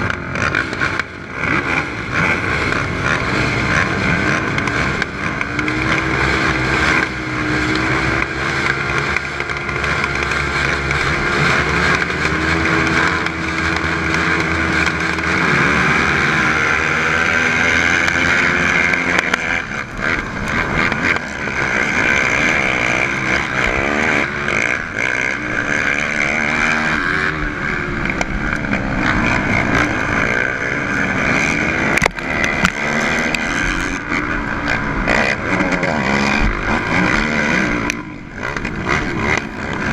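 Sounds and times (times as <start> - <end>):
other quad engines: 0.0 - 39.9
quad engine revving through gears: 0.0 - 39.9.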